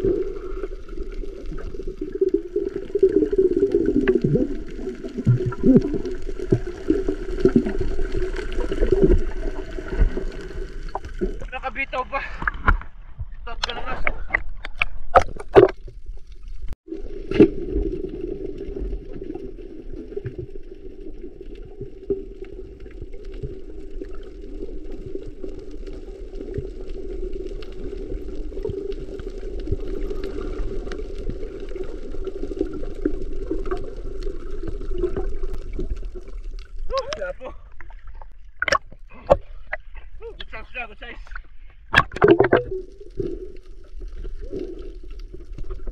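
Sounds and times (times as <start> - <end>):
underwater low hum: 0.0 - 11.6, 12.2 - 40.5, 41.2 - 45.9
bubbling: 0.0 - 13.2, 14.0 - 45.9
underwater clicks and crackles: 0.0 - 45.9
water splashes: 0.0 - 45.9.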